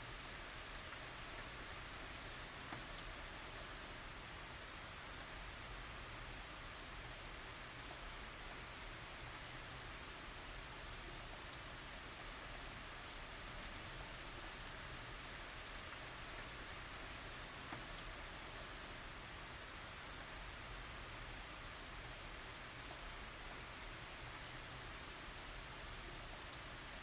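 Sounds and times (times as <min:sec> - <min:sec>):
light rain hissing: 0:00.0 - 0:27.0
patter of raindrops: 0:00.0 - 0:27.0.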